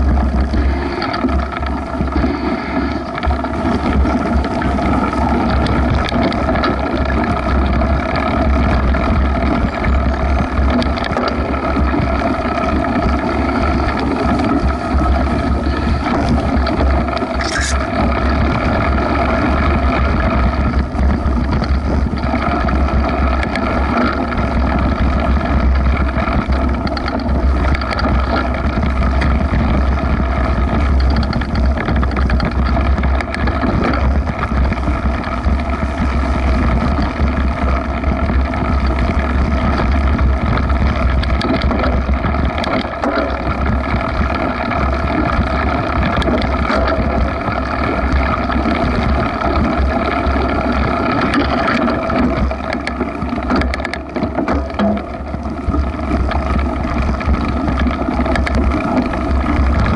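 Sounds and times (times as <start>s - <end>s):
bike rattling: 0.0s - 59.9s
tyres rolling through grass: 0.0s - 59.9s
wind buffeting microphone: 0.0s - 59.9s.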